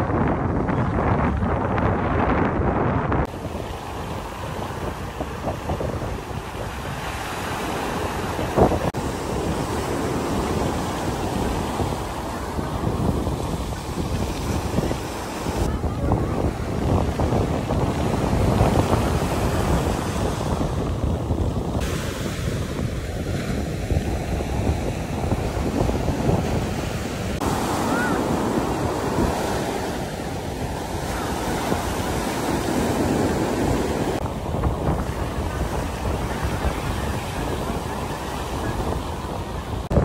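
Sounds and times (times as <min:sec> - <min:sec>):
wind buffeting microphone: 0:00.0 - 0:40.0
small waves breaking on beach: 0:03.2 - 0:40.0.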